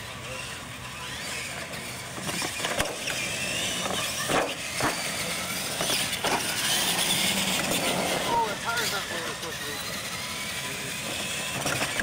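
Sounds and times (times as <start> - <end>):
toy truck motors whining: 0.0 - 12.0
tyres rushing on concrete: 0.1 - 12.0.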